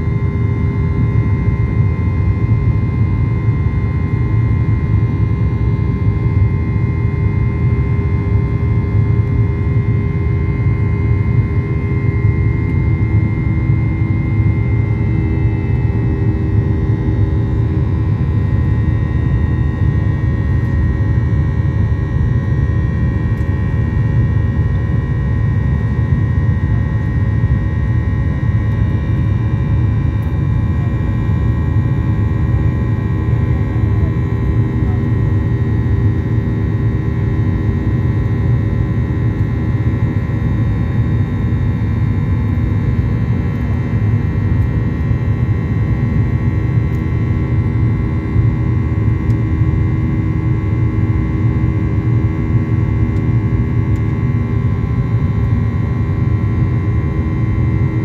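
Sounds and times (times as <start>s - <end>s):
engine whine: 0.0s - 58.0s.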